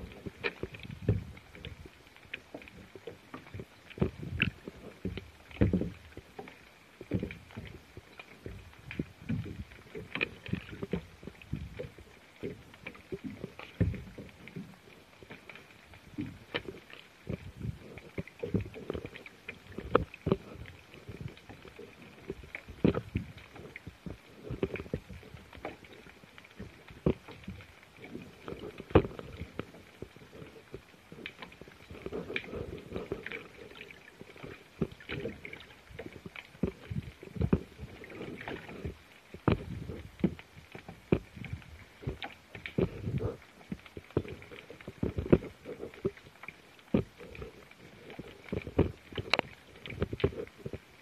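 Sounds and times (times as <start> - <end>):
low water rumble: 0.0 - 51.0
underwater knocks and clicks: 0.0 - 51.0.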